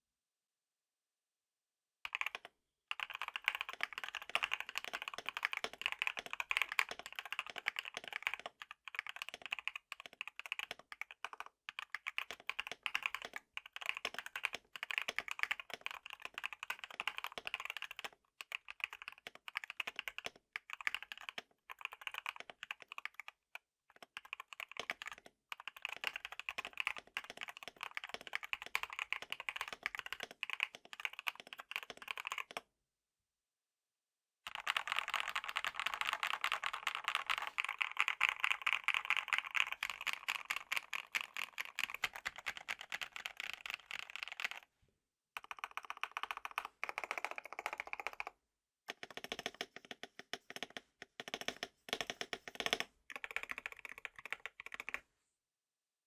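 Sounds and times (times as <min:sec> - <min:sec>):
fast mechanical keyboard typing: 0:02.1 - 0:23.3, 0:23.9 - 0:32.6, 0:34.5 - 0:44.6, 0:45.4 - 0:48.3, 0:48.9 - 0:55.0.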